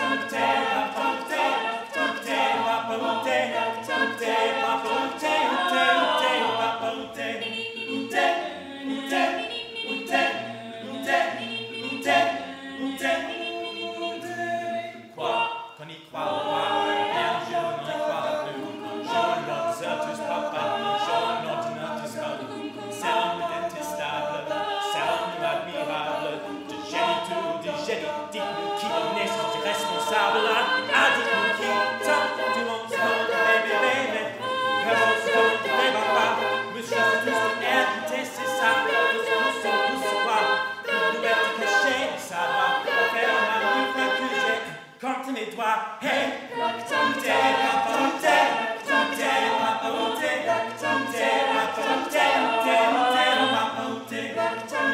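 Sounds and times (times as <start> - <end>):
vocal group singing in harmony: 0.0 - 54.9.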